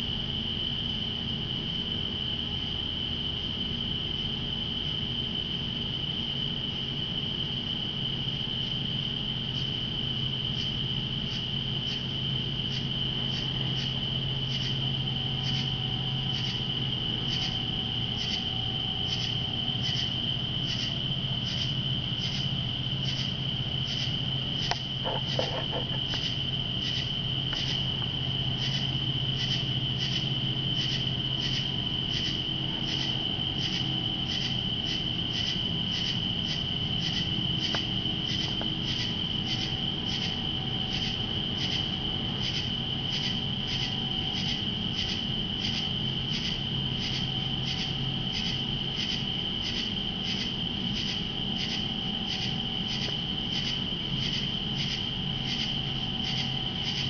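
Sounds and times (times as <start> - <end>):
crickets trilling: 0.0 - 57.0
insect chirping: 0.0 - 57.0
low steady hum: 0.0 - 57.0.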